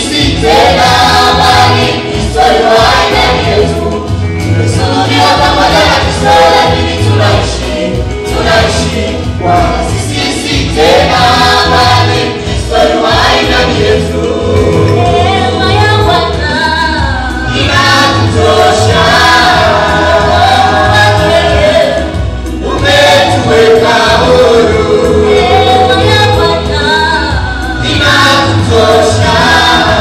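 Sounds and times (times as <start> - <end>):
choir singing gospel song: 0.0 - 30.0
instrumental backing: 0.0 - 30.0
steady bass line: 0.0 - 30.0.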